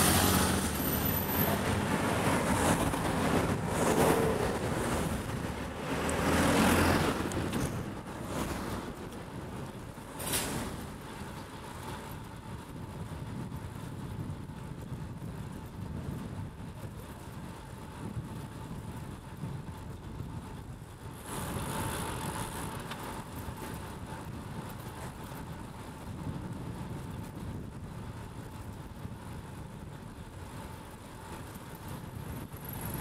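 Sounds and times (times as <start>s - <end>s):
traffic rumble of cars passing: 0.0s - 33.0s.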